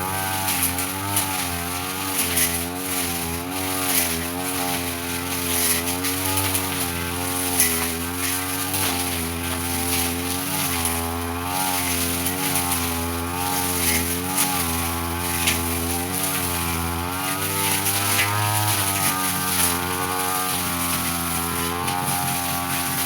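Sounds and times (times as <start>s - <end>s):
brush cutter engine cutting: 0.0s - 23.0s.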